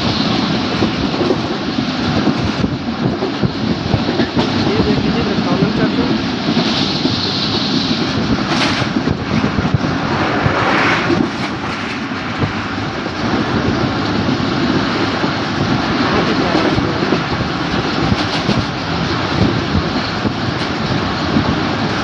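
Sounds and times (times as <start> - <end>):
train wheels roaring: 0.0 - 22.0.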